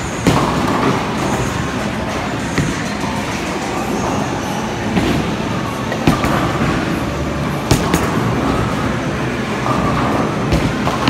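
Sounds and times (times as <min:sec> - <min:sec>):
bowling balls rolling on lanes: 0:00.0 - 0:11.0.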